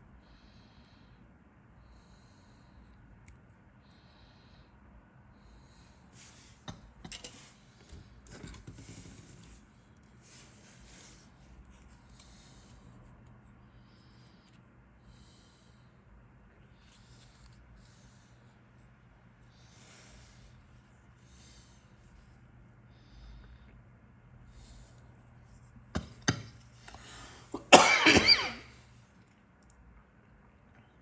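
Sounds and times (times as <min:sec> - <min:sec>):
quiet breathing: 0:00.0 - 0:27.6.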